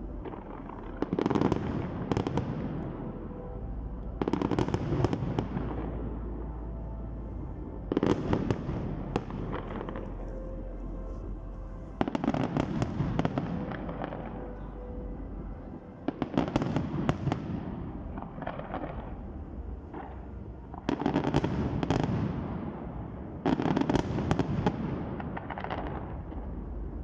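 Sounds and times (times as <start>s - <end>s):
low rumble of fireworks: 0.0s - 27.0s.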